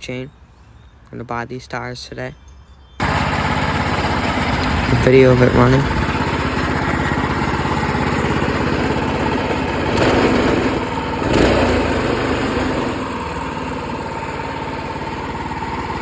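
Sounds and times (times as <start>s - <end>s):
go-kart engine revving and idling: 3.0s - 16.0s.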